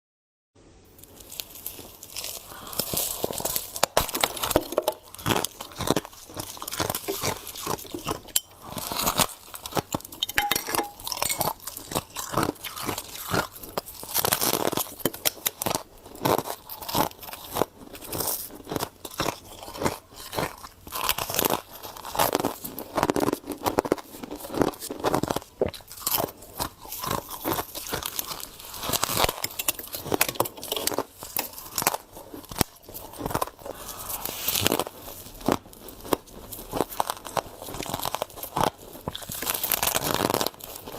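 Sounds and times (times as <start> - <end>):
person chewing crunchy frost: 1.0 - 40.9.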